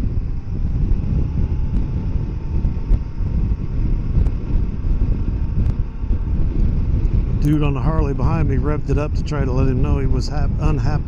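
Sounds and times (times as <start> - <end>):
motorcycle running: 0.0 - 11.0
wind rumbling on microphone: 0.0 - 11.0.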